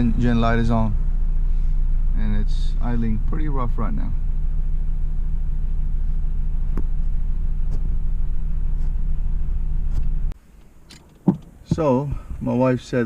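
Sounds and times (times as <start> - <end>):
van engine idling rough: 0.0 - 13.0.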